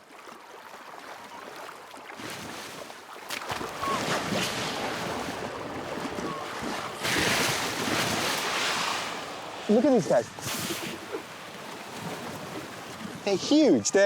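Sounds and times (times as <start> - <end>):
sea water lapping and splashing: 0.0 - 14.0.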